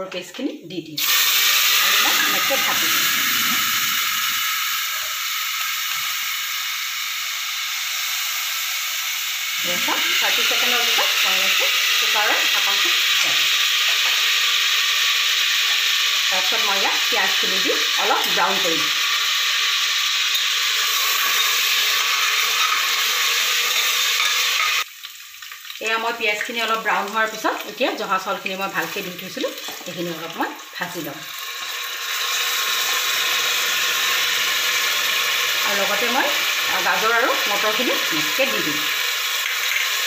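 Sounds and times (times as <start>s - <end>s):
paste sizzling in hot oil: 1.0s - 40.0s.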